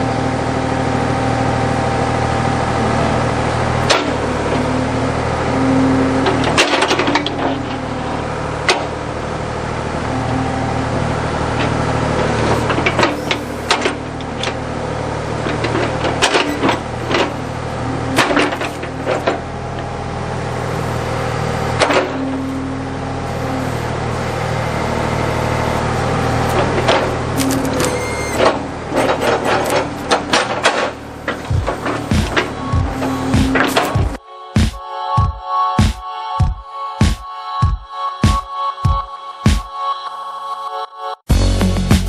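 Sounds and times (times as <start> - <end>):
backhoe engine running: 0.0 - 34.2.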